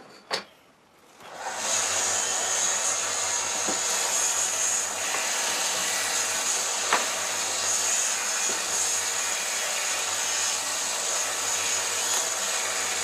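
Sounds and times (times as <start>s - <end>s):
electric sander whining: 1.3s - 13.0s.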